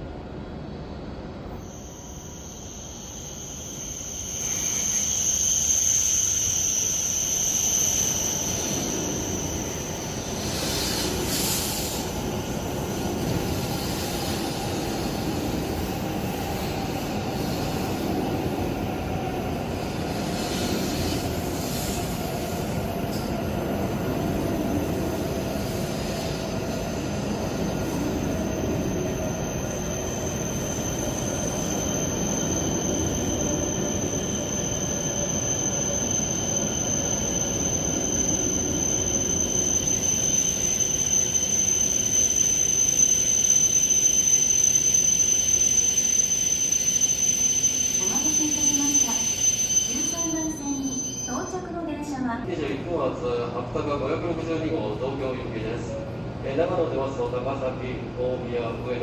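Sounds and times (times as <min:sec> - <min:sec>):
train whine and rumble: 0:00.0 - 0:59.0.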